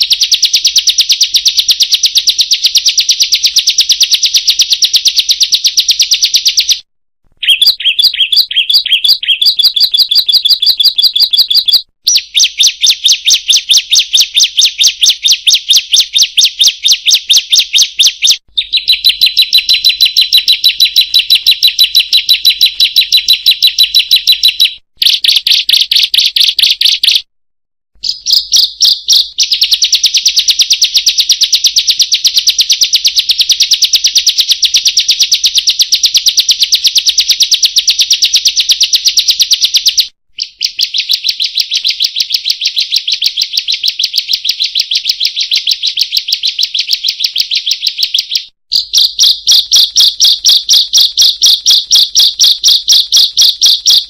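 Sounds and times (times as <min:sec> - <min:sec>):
bird high chirps: 0:00.0 - 0:27.3, 0:28.0 - 0:54.0.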